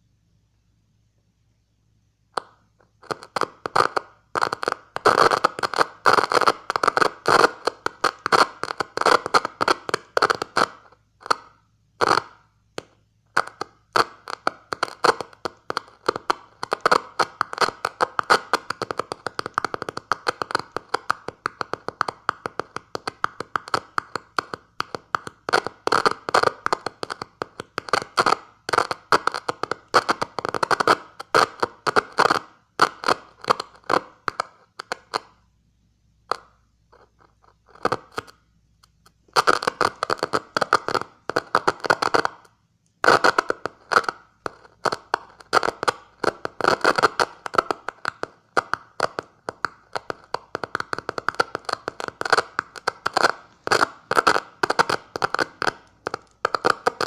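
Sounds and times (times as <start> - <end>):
clicking and crackling: 2.4 - 35.5, 36.3 - 57.0.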